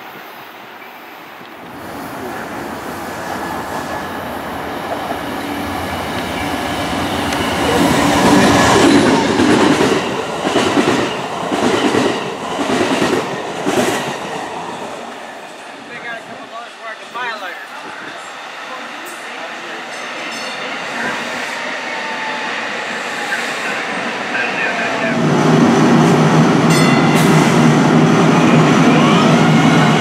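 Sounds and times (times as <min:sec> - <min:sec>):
diesel locomotive passing: 0:00.0 - 0:30.0.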